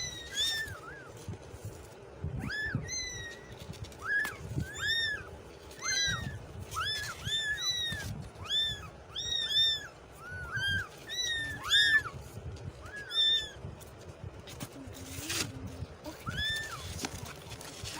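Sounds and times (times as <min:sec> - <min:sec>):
kittens meowing: 0:00.0 - 0:01.4, 0:02.3 - 0:14.0, 0:15.0 - 0:17.2.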